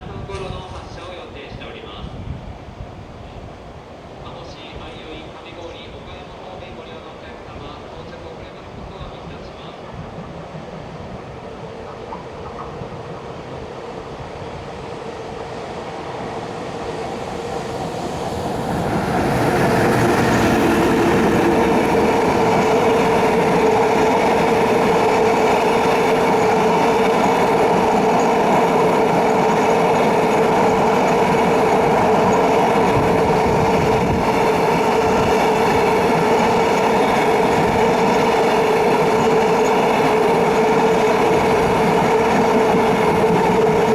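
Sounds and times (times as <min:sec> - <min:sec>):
train wheels rolling on rails: 0:07.6 - 0:43.9.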